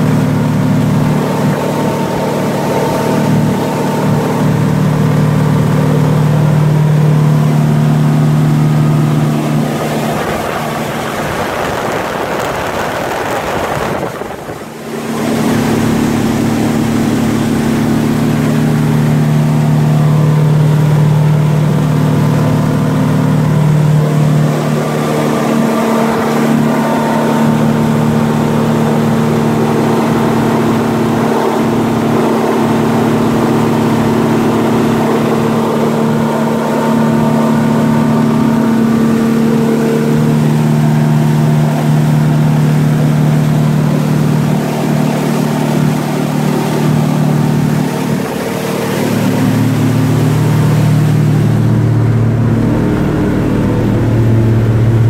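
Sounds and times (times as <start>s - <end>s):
outboard motor running: 0.0s - 55.0s
water rushing along hull: 0.0s - 55.0s.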